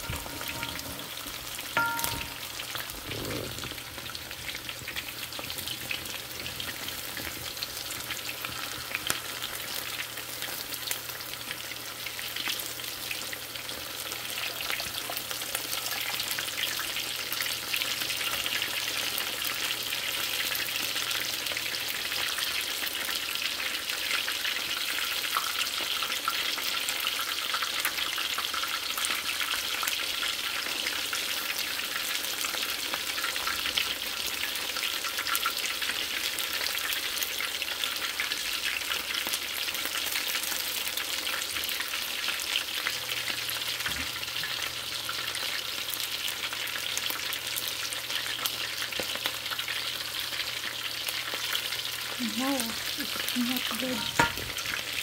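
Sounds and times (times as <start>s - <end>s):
chicken frying in hot oil: 0.0s - 55.0s.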